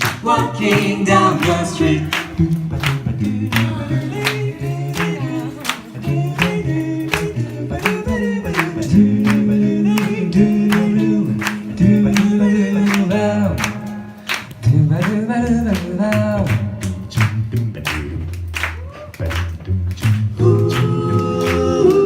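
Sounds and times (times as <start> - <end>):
vocal group singing in harmony: 0.0 - 18.3, 20.1 - 22.0
low bass line: 0.0 - 22.0
steady percussive beat: 0.0 - 22.0.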